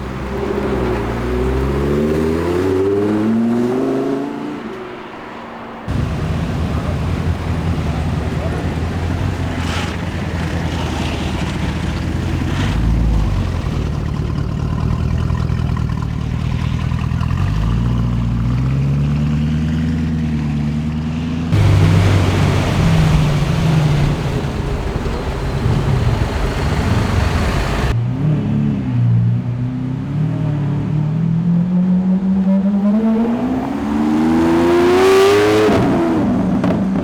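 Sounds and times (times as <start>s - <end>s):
supercar engines revving: 0.0s - 37.0s.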